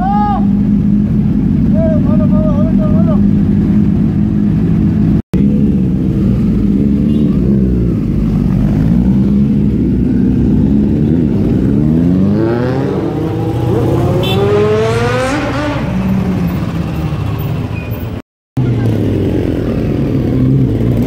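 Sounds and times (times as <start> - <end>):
motorcycle engine revving: 0.0 - 21.0
motorcycle engines running: 0.0 - 21.0.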